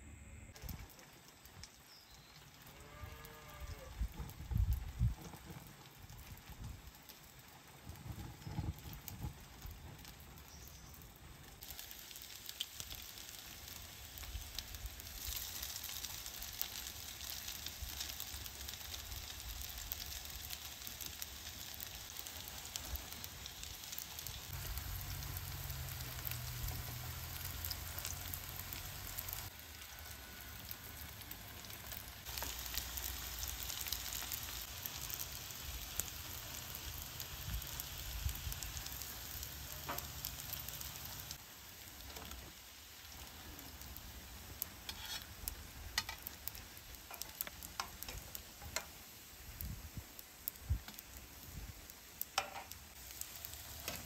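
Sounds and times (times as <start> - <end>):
pastry frying in oil: 0.5 - 54.0.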